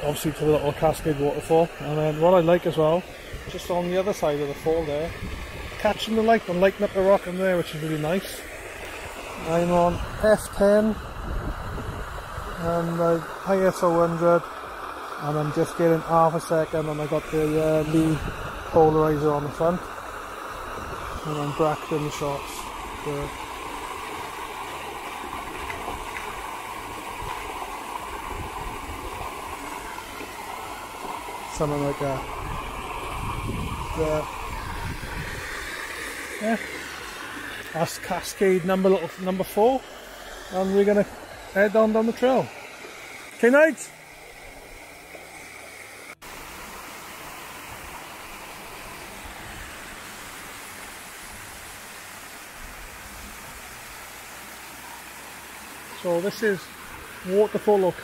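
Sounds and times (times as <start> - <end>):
waterfall water rushing: 0.0 - 58.0.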